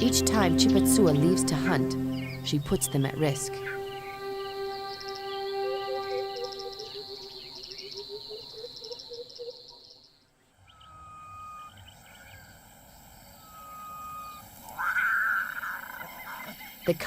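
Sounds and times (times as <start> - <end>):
low bird calls: 0.0 - 16.9
insects trilling: 0.0 - 17.0
thin whistled calls: 2.0 - 17.0.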